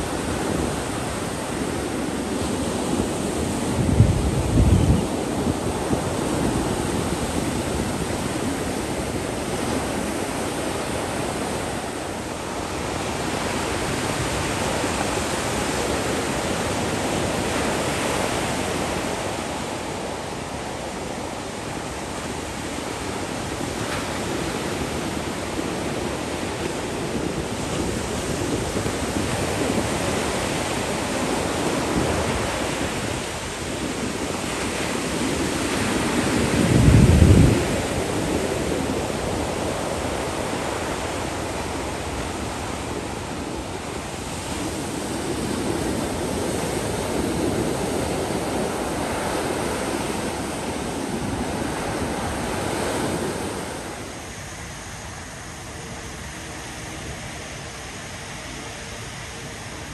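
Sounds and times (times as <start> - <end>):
surf breaking on a beach: 0.0 - 59.9.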